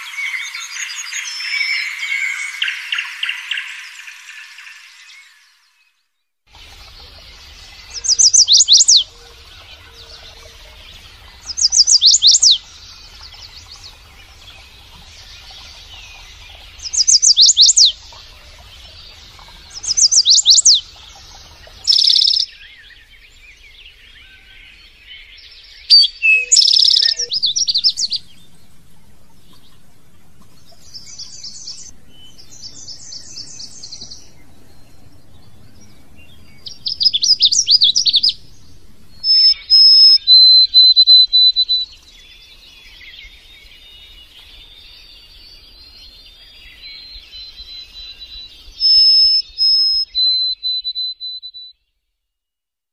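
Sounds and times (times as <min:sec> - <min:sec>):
songbirds singing: 0:00.0 - 0:52.0.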